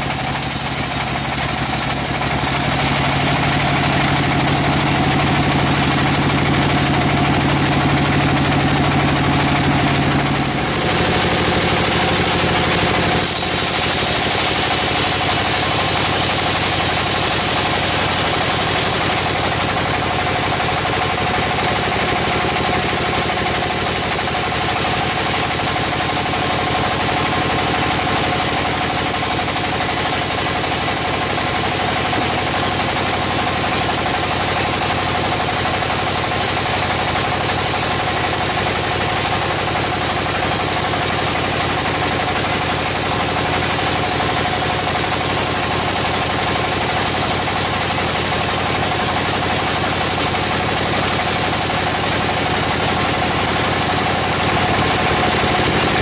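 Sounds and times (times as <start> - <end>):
band sawmill cutting log: 0.0 - 56.0.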